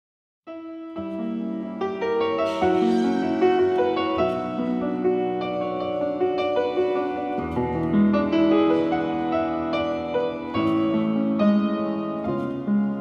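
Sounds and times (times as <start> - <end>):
piano bass part: 0.5 - 13.0
piano chords: 0.5 - 13.0.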